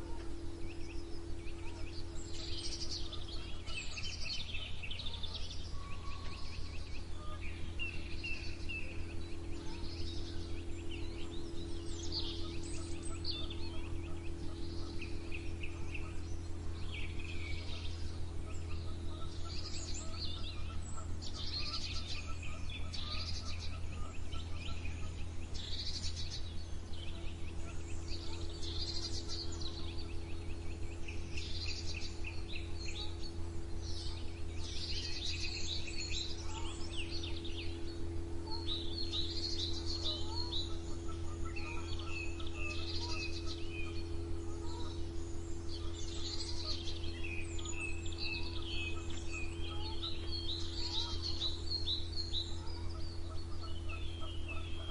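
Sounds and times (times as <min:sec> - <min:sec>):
songbirds singing and chirping: 0:00.0 - 0:54.9
steady low hum: 0:00.0 - 0:54.9.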